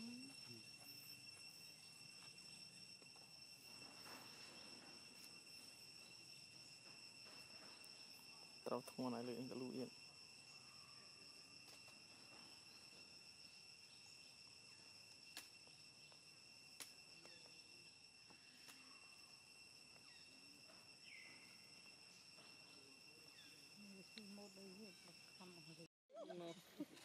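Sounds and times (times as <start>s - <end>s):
faint high insect drone: 0.0s - 27.0s.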